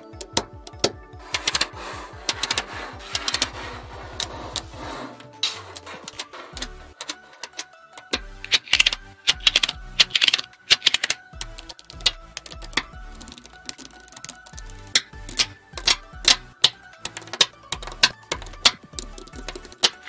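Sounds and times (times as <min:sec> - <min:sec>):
magnetic balls clicking: 0:00.0 - 0:20.0
soft background music: 0:00.0 - 0:20.0.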